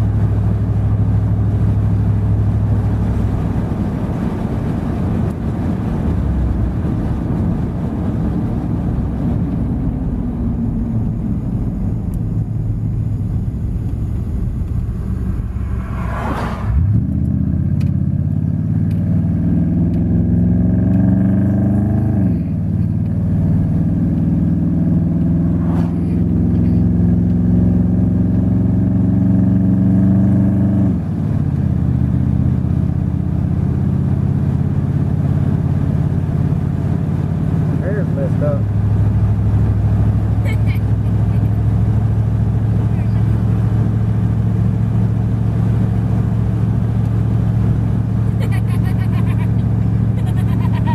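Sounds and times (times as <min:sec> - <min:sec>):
truck engine rumbling: 0:00.0 - 0:29.8, 0:31.0 - 0:50.9.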